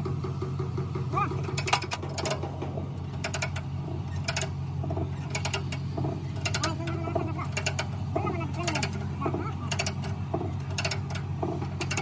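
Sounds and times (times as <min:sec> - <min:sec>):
steady low hum: 0:00.0 - 0:12.0
ratchet clicking: 0:00.2 - 0:12.0.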